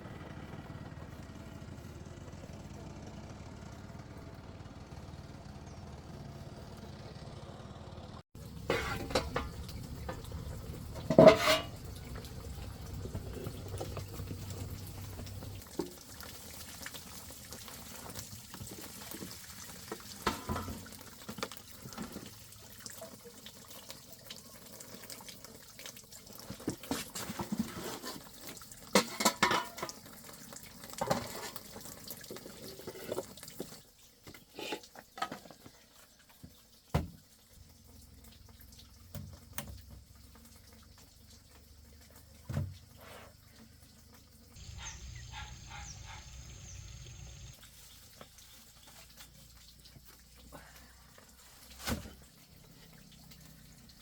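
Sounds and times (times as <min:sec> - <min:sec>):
water running and splashing: 0:08.4 - 0:54.0.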